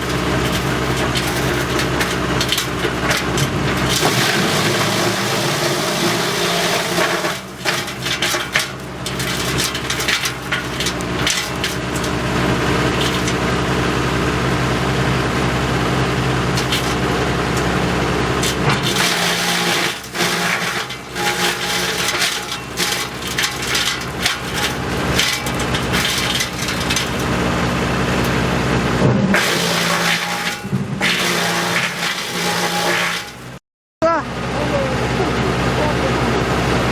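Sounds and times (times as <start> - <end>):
wood crunching and splintering: 0.0 - 28.6, 29.4 - 33.6
wood chipper engine drone: 0.0 - 36.9.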